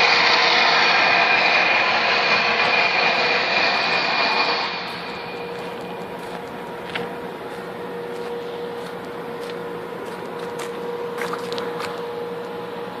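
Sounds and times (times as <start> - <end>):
power plant industrial hum: 0.0 - 13.0.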